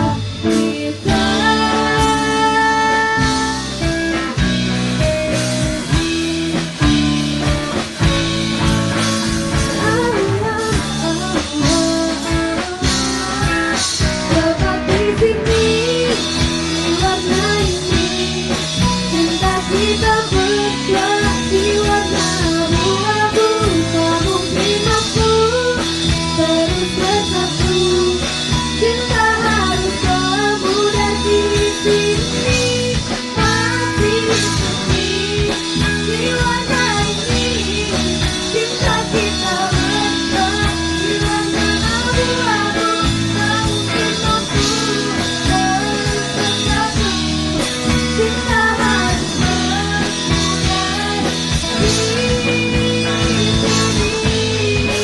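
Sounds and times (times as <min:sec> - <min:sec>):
woman singing into microphone: 0:00.0 - 0:04.4, 0:09.0 - 0:55.0
instrumental accompaniment: 0:00.0 - 0:55.0.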